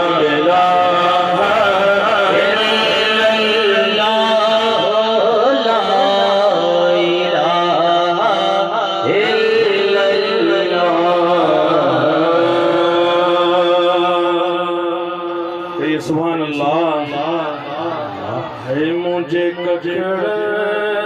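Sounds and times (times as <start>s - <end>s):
man singing through pa: 0.0s - 21.0s.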